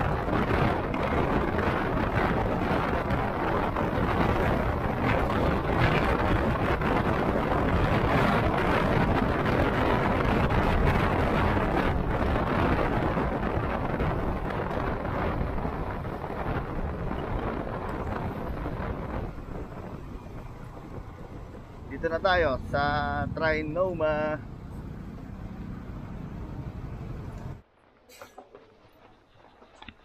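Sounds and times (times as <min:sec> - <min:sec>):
motorcycle engine: 0:00.0 - 0:23.7, 0:24.3 - 0:29.9
wind rushing over microphone: 0:00.0 - 0:27.6
road noise: 0:00.0 - 0:30.0.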